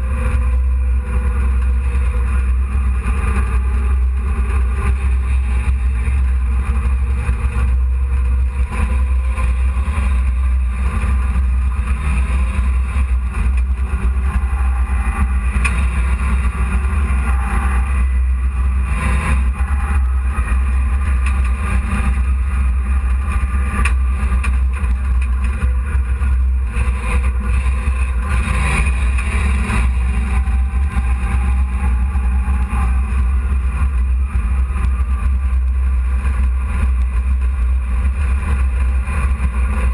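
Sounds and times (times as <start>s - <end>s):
truck engine low rumble: 0.0s - 39.9s.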